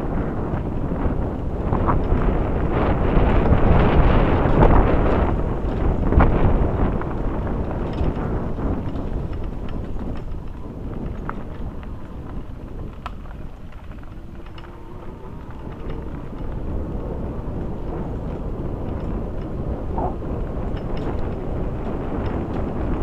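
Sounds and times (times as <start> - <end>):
bicycle clicks and rattles: 0.0 - 23.0
wind rumbling on microphone: 0.0 - 23.0.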